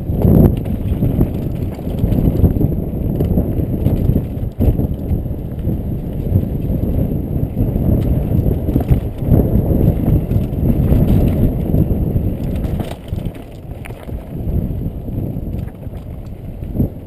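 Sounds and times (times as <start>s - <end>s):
bike rattle: 0.0s - 17.0s
bike tyres rumbling on dirt: 0.0s - 17.0s
wind on microphone: 0.0s - 17.0s.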